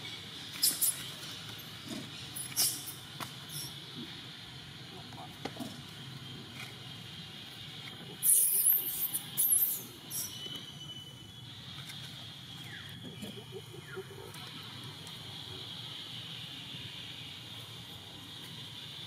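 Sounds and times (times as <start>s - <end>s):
high background drone: 0.0s - 19.0s.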